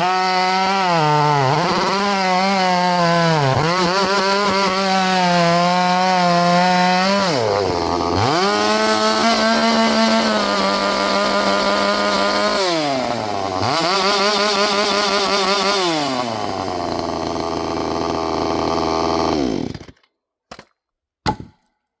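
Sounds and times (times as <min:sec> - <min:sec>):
chainsaw engine revving and idling: 0:00.0 - 0:20.0.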